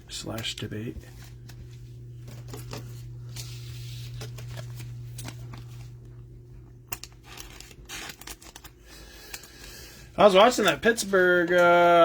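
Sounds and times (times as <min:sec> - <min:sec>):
steady low hum: 0:00.0 - 0:12.0
cards rustling and sliding: 0:00.3 - 0:06.0, 0:06.9 - 0:12.0.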